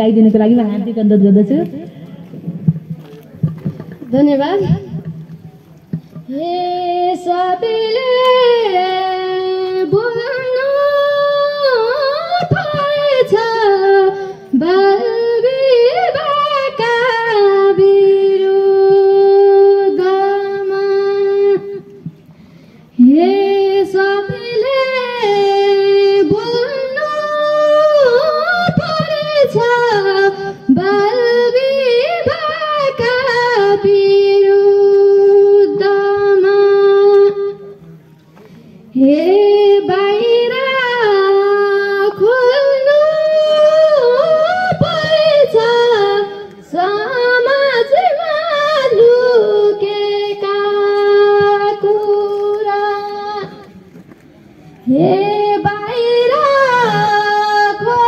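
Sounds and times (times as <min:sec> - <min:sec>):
girl singing unaccompanied: 0:06.2 - 0:22.0, 0:23.0 - 0:37.8, 0:38.9 - 0:53.8, 0:54.8 - 0:58.0.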